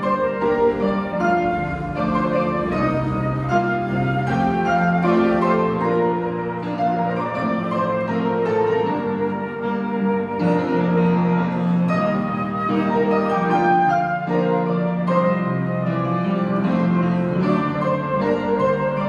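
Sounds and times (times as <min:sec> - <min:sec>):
flute melody: 0:00.0 - 0:19.0
piano accompaniment: 0:00.0 - 0:19.0.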